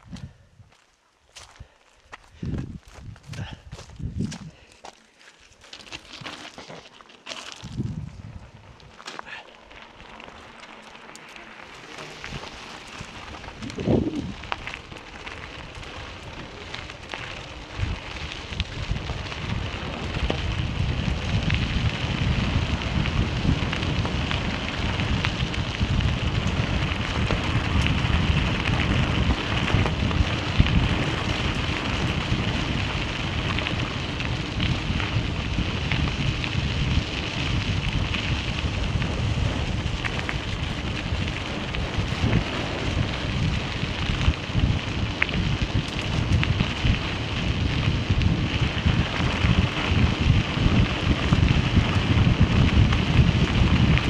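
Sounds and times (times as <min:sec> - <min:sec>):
wind rumble on microphone: 0:00.0 - 0:00.8, 0:01.4 - 0:04.7, 0:07.5 - 0:09.4, 0:11.5 - 0:54.0
bicycle tyres crunching on gravel: 0:00.0 - 0:54.0.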